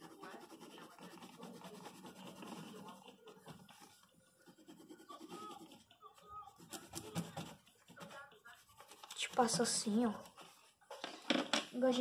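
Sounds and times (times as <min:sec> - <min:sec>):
pencil scratching on paper: 0:00.0 - 0:10.8.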